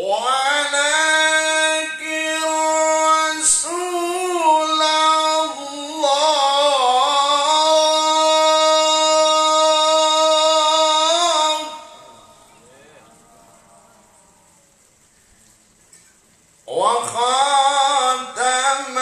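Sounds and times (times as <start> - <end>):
man reciting melodically: 0.0 - 14.0, 16.6 - 19.0.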